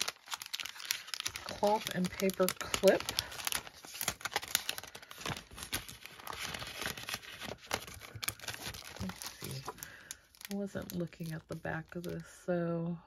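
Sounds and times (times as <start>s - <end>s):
plastic packaging crinkling: 0.0s - 12.3s.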